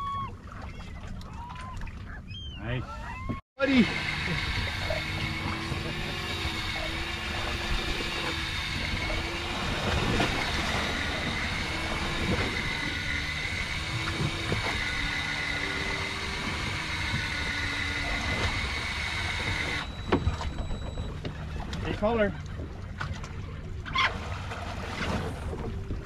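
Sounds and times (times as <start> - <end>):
outboard motor idling: 0.0 - 26.0
thin steady whine: 3.6 - 26.0.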